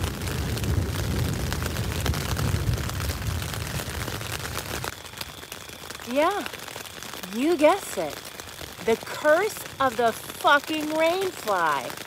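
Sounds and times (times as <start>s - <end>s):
rain pattering on tent: 0.0s - 12.0s.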